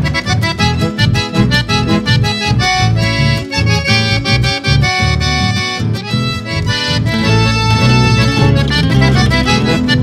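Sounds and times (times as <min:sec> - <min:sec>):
accordion: 0:00.0 - 0:10.0
rhythmic bass notes: 0:00.0 - 0:10.0.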